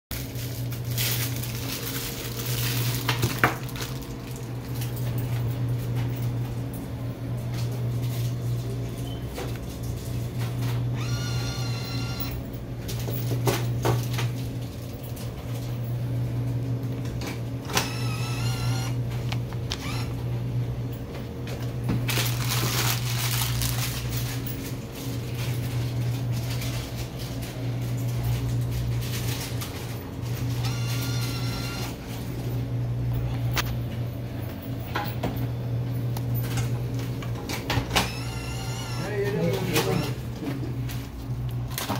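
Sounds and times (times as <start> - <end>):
low electrical hum: 0.1 - 41.9.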